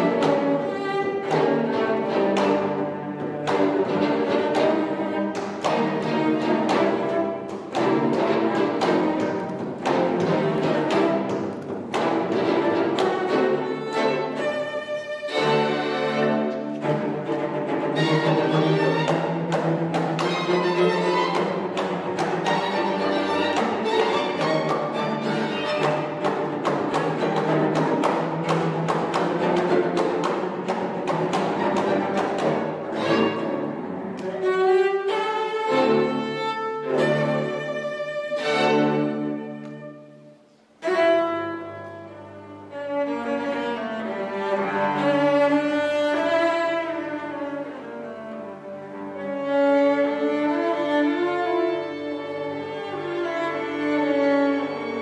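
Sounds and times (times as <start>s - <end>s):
cello and string orchestra: 0.0s - 55.0s.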